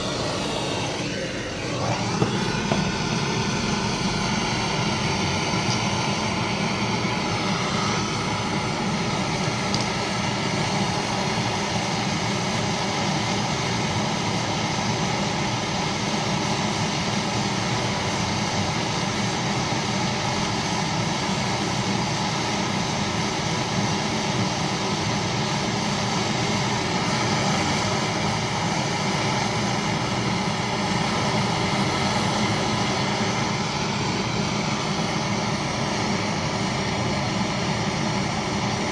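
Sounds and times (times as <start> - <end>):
hiss: 0.0 - 38.9
machine humming: 0.0 - 38.9.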